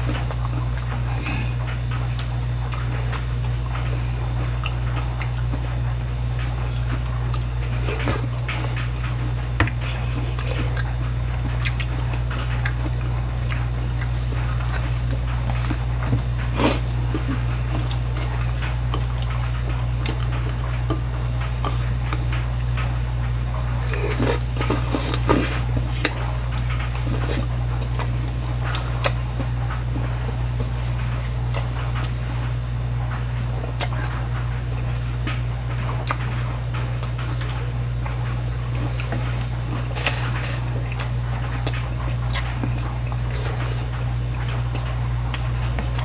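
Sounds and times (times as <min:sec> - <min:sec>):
people chewing crunchy food: 0:00.0 - 0:46.0.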